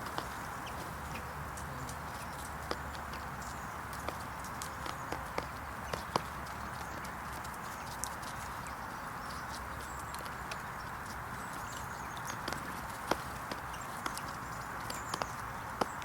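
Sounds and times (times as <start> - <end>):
outdoor background hum: 0.0 - 16.0.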